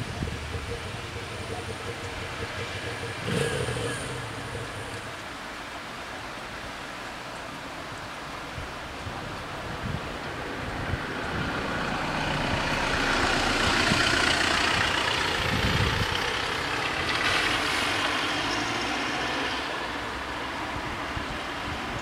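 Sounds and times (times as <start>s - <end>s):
road vehicle passing by: 0.0s - 7.2s, 9.2s - 22.0s.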